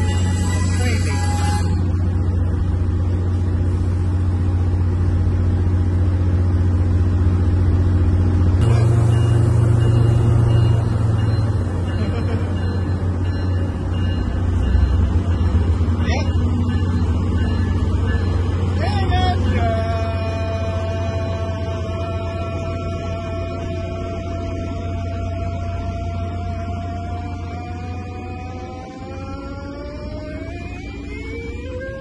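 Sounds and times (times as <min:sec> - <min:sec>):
diesel locomotive engine drone: 0:00.0 - 0:32.0.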